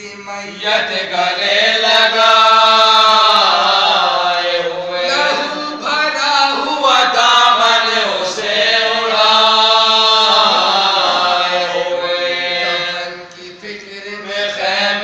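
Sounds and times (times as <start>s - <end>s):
men chanting into microphones: 0.0s - 15.0s.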